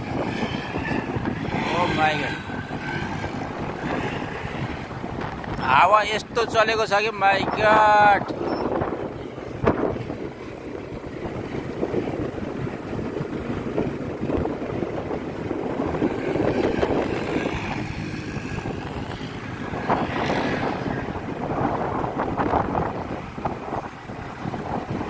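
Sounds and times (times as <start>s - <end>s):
vehicle engines running: 0.0s - 25.0s
wind blowing across microphone: 0.0s - 25.0s.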